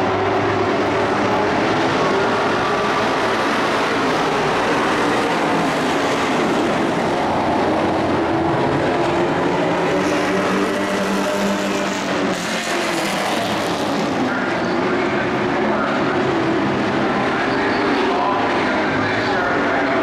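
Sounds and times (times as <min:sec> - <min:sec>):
racing truck engines: 0:00.0 - 0:20.0.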